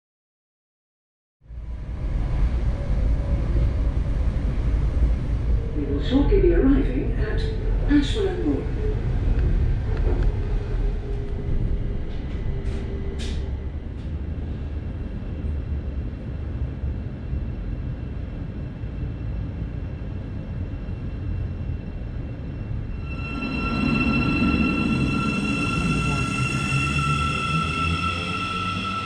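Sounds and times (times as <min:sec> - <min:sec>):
electric train whine: 0:01.4 - 0:29.0
train rumbling: 0:01.4 - 0:29.0.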